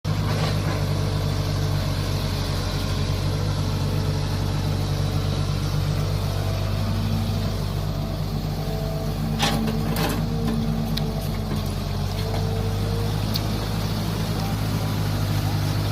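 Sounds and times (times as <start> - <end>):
excavator engine running: 0.1 - 15.9.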